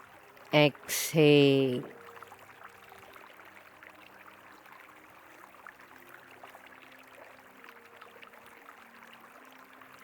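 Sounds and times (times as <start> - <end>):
river water babbling: 0.0 - 10.0.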